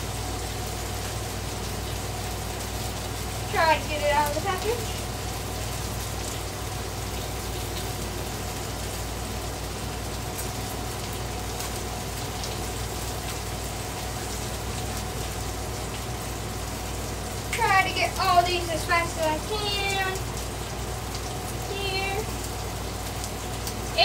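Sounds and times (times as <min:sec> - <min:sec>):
meat and onions sizzling on griddle: 0:00.0 - 0:24.0
steady low hum: 0:00.0 - 0:24.0.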